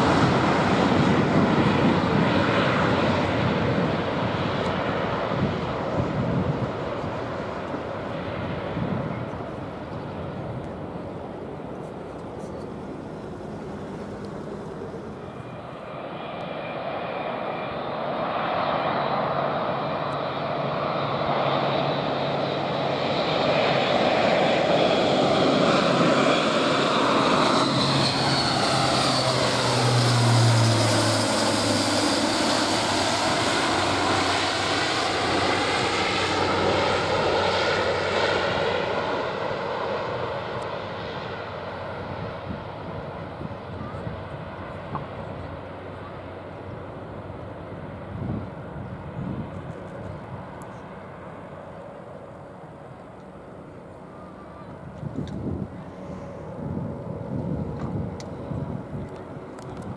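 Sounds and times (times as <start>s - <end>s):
low propeller hum: 0.0s - 59.9s
turboprop aircraft droning: 0.0s - 59.9s.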